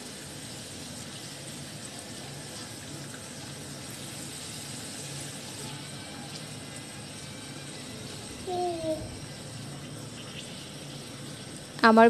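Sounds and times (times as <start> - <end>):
deep-frying sizzling hiss: 0.0 - 12.0.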